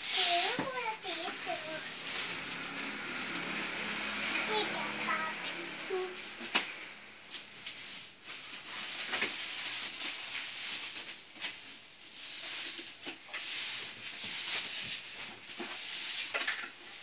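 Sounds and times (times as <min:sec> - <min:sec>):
plastic wrap crinkling: 0:00.0 - 0:04.7, 0:07.3 - 0:17.0.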